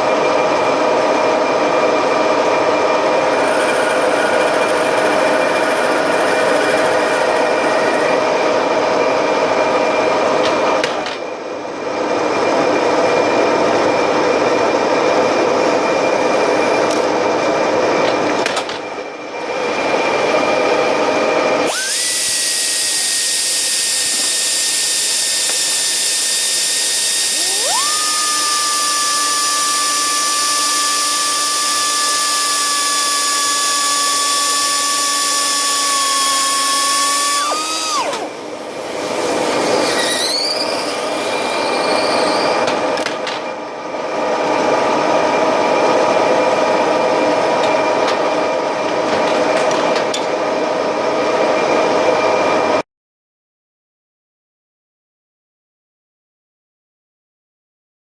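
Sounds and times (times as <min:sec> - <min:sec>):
high-pitched lathe whine: 0:00.0 - 0:18.0, 0:18.9 - 0:49.0, 0:50.1 - 0:52.8
lower machine whine: 0:00.0 - 0:52.8
rough machine noise: 0:00.0 - 0:52.8.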